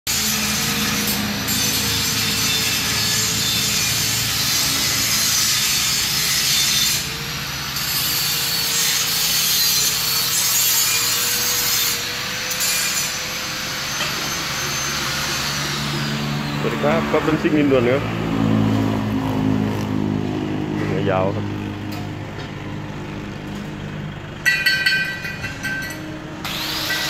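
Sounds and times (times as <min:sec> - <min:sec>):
angle grinder grinding metal: 0:00.1 - 0:20.0, 0:24.5 - 0:27.0.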